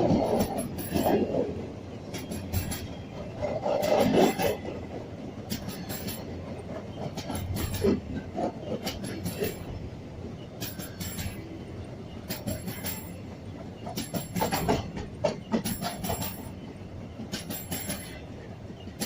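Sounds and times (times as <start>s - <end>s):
railroad cars rumbling past: 0.0s - 19.0s
wheels clacking over rail joints: 0.0s - 19.0s.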